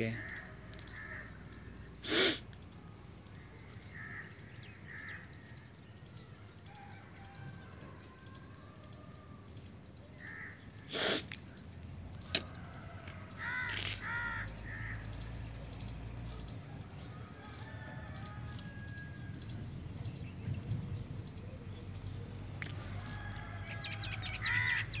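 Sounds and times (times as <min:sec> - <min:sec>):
birds calling: 0:00.0 - 0:25.0
faint bird chirping: 0:00.0 - 0:25.0.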